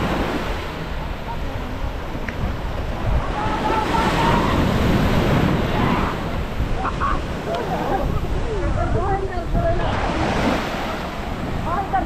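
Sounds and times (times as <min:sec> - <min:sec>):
sea waves breaking on beach: 0:00.0 - 0:12.0
wind buffeting microphone: 0:00.0 - 0:12.0
faint voices of people: 0:00.7 - 0:12.0.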